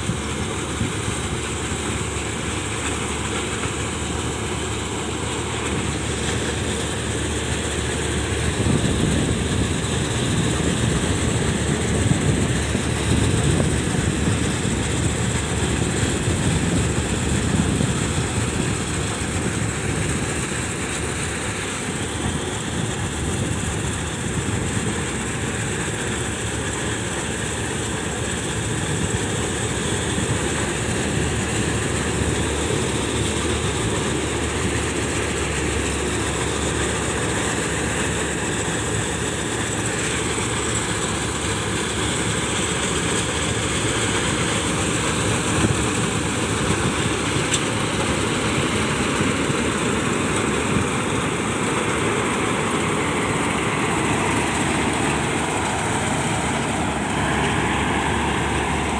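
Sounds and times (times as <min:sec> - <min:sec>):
combine harvester rumble and clatter: 0:00.0 - 0:58.9.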